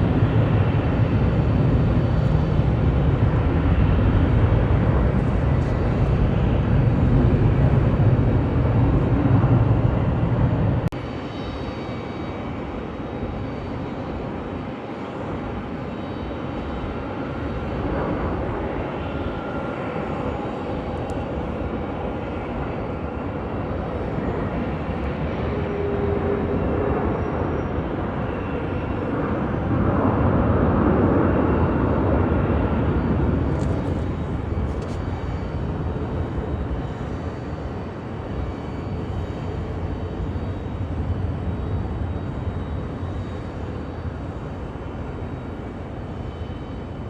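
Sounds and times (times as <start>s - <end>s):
jet engine rush: 0.0s - 12.6s, 16.5s - 47.0s.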